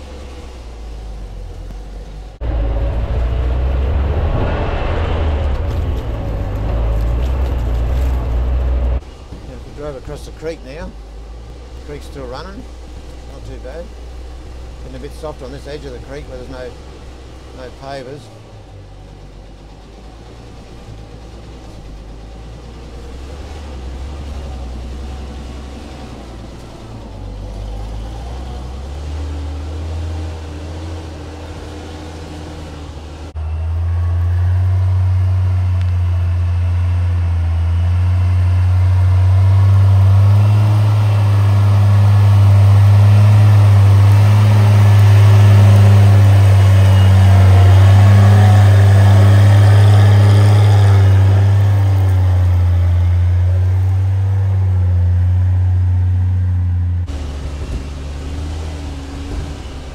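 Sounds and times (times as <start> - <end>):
truck engine running under load: 0.0 - 59.9.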